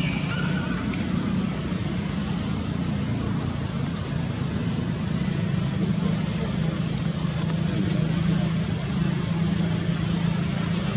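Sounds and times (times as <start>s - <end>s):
motor traffic rumble: 0.0s - 10.9s.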